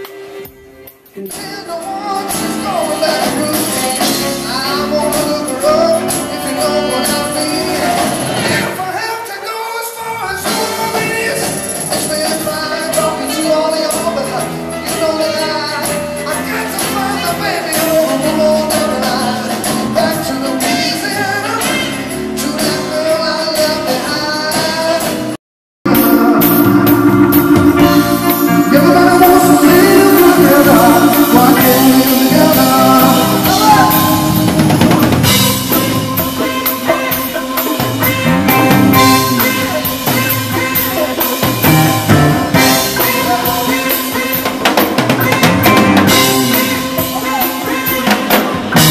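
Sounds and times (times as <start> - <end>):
drums: 0.0 - 48.9
live band music: 0.0 - 48.9
person singing: 1.2 - 25.2, 25.9 - 48.9.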